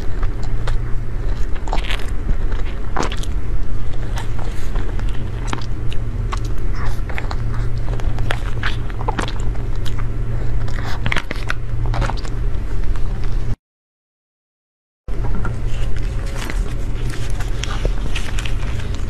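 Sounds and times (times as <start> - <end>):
steady low hum: 0.0 - 13.6, 15.1 - 19.0.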